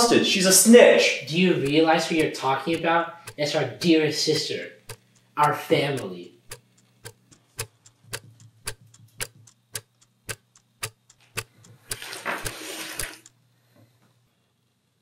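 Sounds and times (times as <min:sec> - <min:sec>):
clock ticking: 0:00.0 - 0:13.4.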